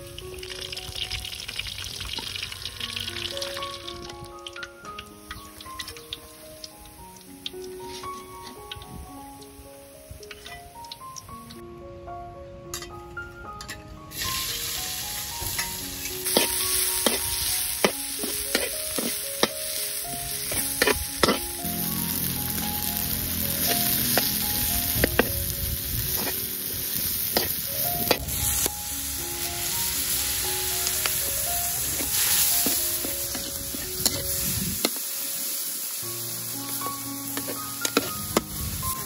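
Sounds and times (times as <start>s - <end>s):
food sizzling in oil: 0.0s - 11.6s, 14.1s - 39.0s.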